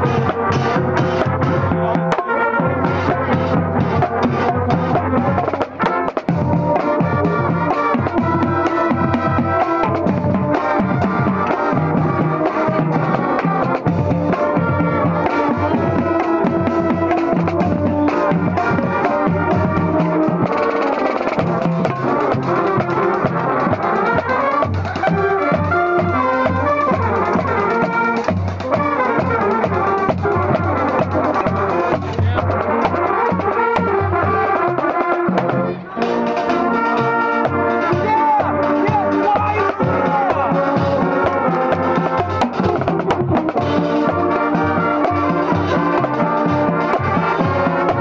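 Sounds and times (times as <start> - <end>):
marching band brass: 0.0 - 48.0.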